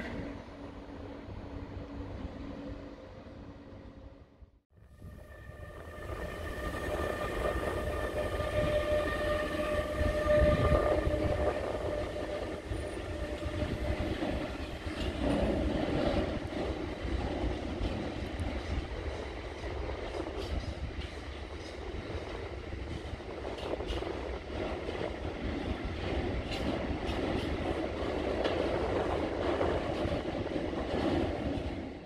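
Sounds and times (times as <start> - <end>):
freight train wheels rumbling: 5.0 - 32.0.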